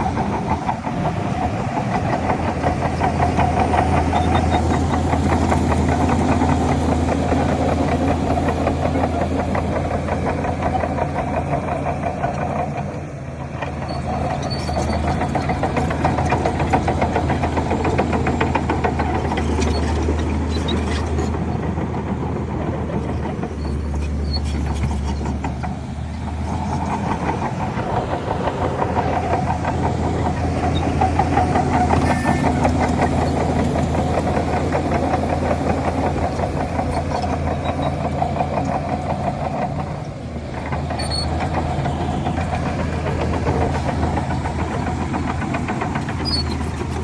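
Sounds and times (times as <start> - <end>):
heavy diesel engine under load: 0.0 - 47.0.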